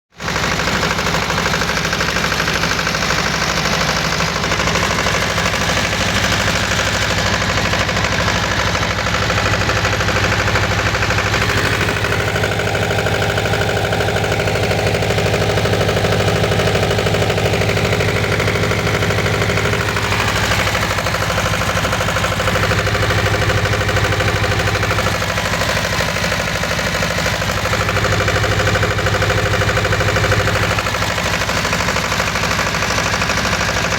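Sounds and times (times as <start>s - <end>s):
diesel generator running: 0.1s - 33.9s.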